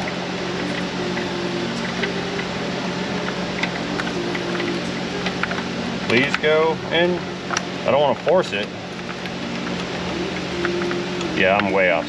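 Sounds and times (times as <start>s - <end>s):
fan whirring: 0.0s - 12.0s.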